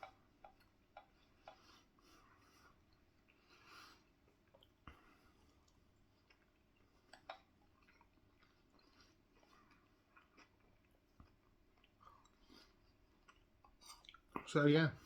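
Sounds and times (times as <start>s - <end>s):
person chewing: 0.0s - 14.5s.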